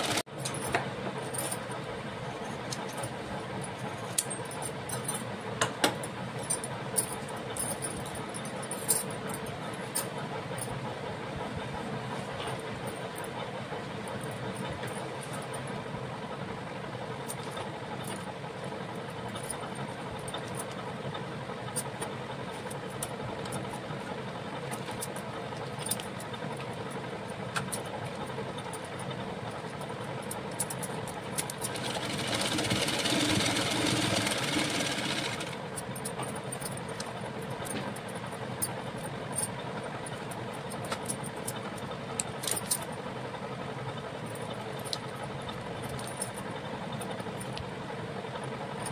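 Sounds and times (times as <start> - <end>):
steady mechanical hum: 0.0 - 48.9.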